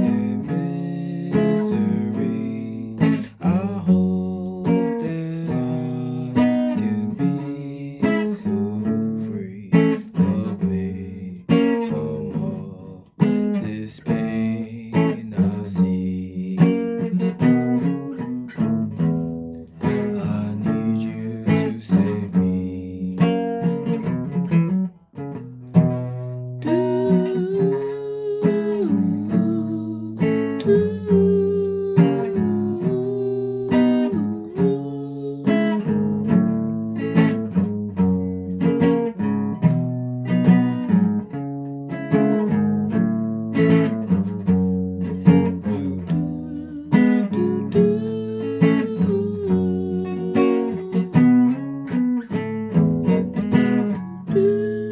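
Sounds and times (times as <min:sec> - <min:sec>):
guitar strumming chords: 0:00.0 - 0:10.7, 0:14.2 - 0:54.9.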